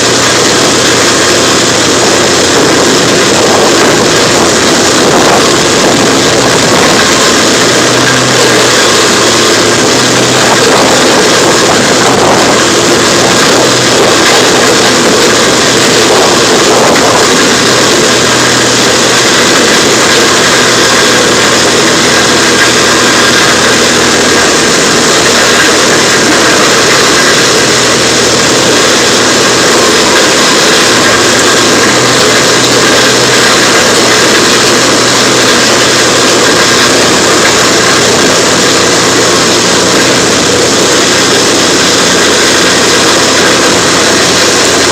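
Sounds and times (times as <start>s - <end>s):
heavy machinery engine running: 0.0s - 44.9s.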